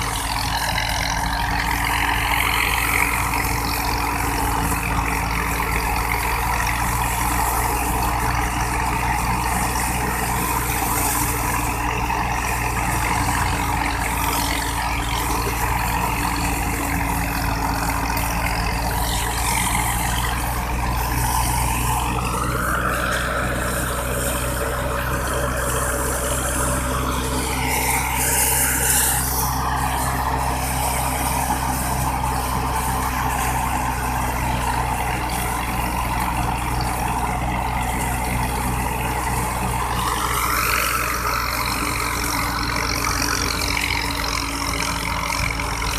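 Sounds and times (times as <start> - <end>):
thresher and engine humming: 0.0 - 45.9.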